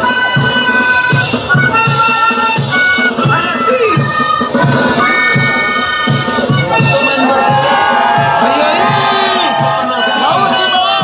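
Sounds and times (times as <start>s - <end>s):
bass drum beat: 0.0s - 11.0s
flute ensemble playing: 0.0s - 11.0s.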